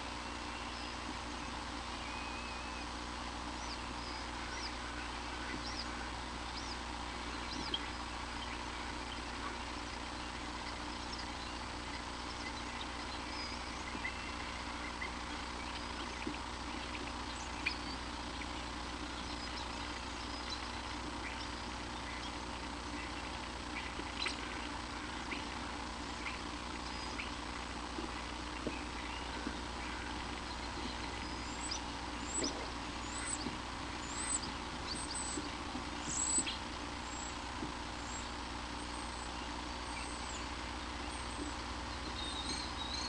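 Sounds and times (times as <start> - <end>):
faint high bird chirps: 0.0 - 43.0
steady hum: 0.0 - 43.0.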